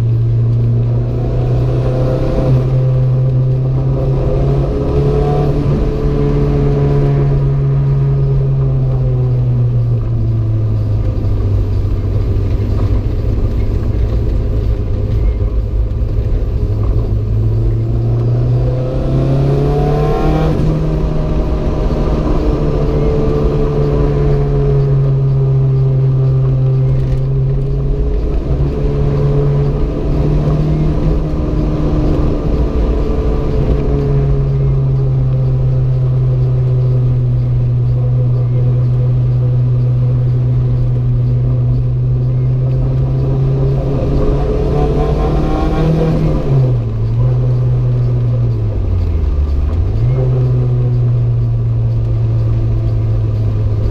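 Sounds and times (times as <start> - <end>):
turbocharged car engine running: 0.0 - 53.9.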